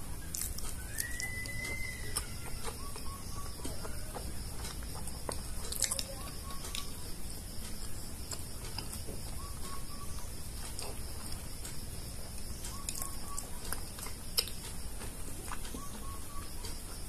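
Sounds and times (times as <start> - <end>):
man chewing: 0.0 - 17.0.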